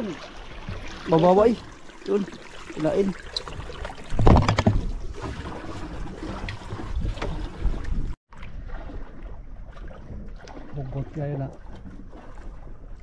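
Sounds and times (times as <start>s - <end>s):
water sloshing around a boat: 0.0s - 13.0s.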